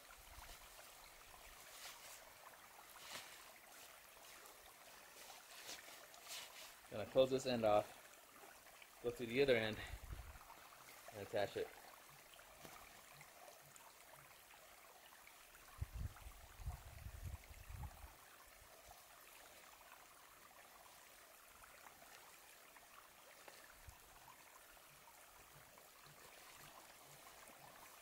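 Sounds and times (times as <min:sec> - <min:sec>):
faint outdoor hiss: 0:00.0 - 0:28.0.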